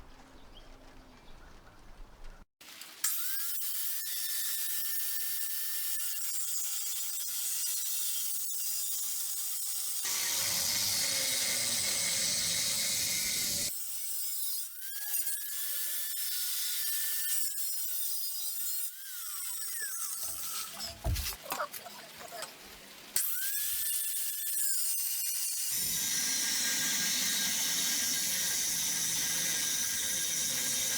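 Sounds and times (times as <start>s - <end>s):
power cutting tool cutting steel: 3.0s - 21.4s, 23.2s - 30.9s.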